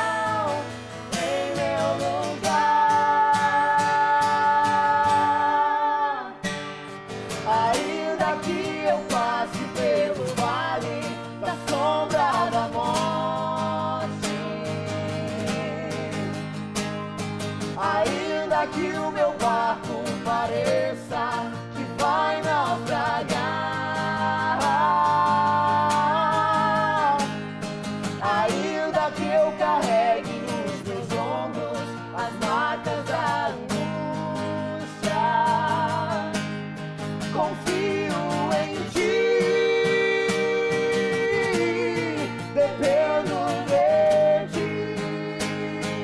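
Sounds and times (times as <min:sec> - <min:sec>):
man singing: 0:00.0 - 0:06.4, 0:07.4 - 0:16.5, 0:17.8 - 0:27.4, 0:28.2 - 0:36.4, 0:37.2 - 0:46.0
woman singing: 0:00.0 - 0:06.5, 0:07.4 - 0:16.4, 0:17.8 - 0:27.4, 0:28.2 - 0:36.5, 0:37.3 - 0:46.0
strummed acoustic guitar: 0:00.0 - 0:46.0.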